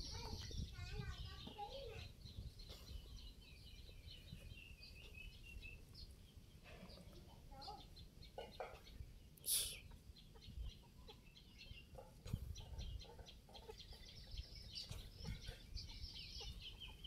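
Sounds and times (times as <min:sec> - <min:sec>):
bird clucking and chirping: 0:00.0 - 0:17.0.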